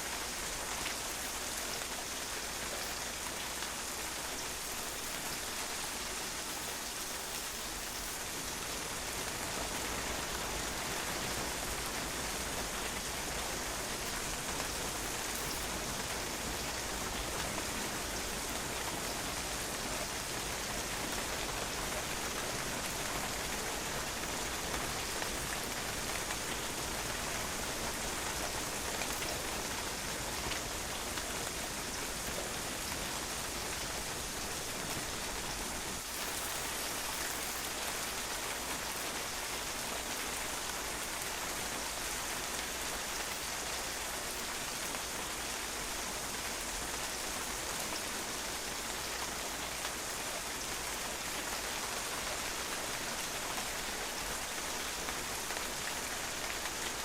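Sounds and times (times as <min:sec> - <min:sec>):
rain pattering on patio: 0:00.0 - 0:57.0.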